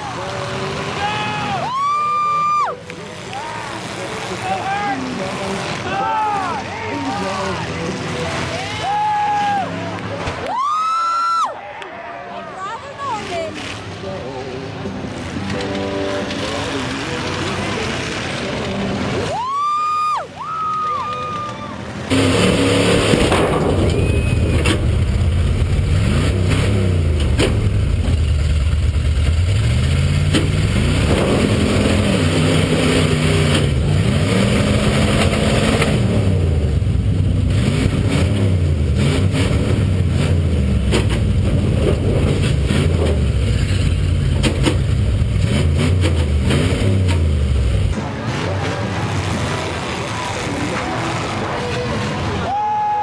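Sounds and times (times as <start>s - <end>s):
truck engines revving: 0.0s - 11.4s, 12.1s - 53.0s.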